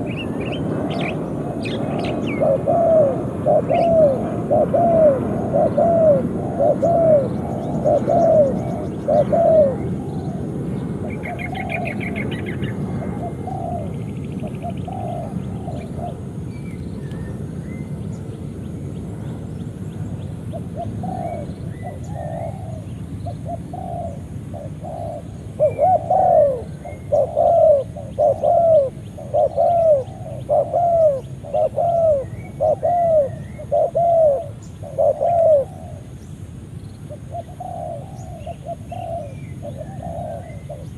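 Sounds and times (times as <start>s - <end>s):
dove cooing: 0.0s - 16.4s, 20.5s - 36.2s, 37.1s - 40.9s.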